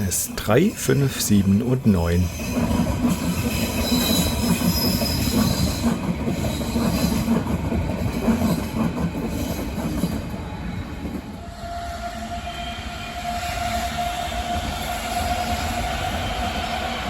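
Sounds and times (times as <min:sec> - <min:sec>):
high train whine: 0:00.0 - 0:17.0
train wheels rumbling: 0:00.0 - 0:17.0.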